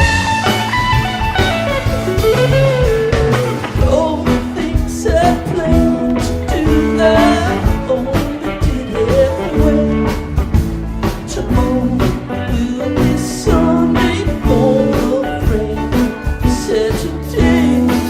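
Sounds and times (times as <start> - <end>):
electric guitar lead melody: 0.0 - 18.0
steady drum beat: 0.0 - 18.0.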